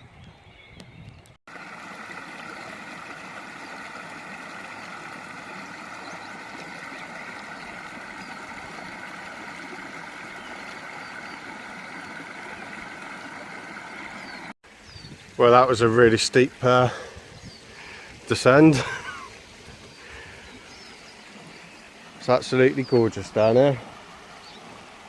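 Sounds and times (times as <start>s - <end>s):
stream rushing: 1.5s - 25.0s.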